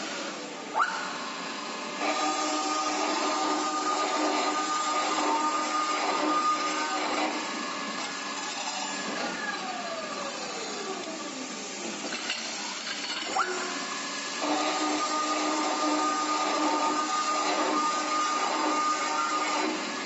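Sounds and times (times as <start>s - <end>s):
pipe-cutting machine motor whine: 0.0s - 20.0s.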